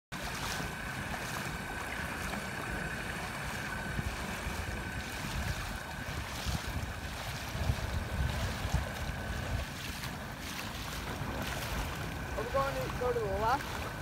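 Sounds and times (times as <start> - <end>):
boat motor high whine: 0.1 - 14.0
water splashing against hull: 0.1 - 14.0
wind rumbling on microphone: 0.2 - 14.0.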